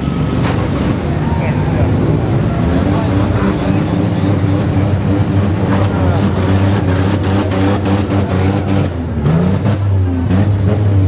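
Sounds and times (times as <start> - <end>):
engine revving: 0.0 - 11.0
engines running hard: 0.0 - 11.0.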